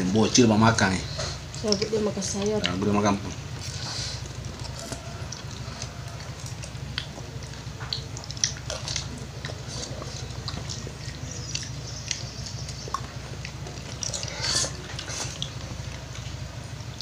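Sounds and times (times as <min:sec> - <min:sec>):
chewing: 0:00.0 - 0:17.0
steady low hum: 0:00.0 - 0:17.0.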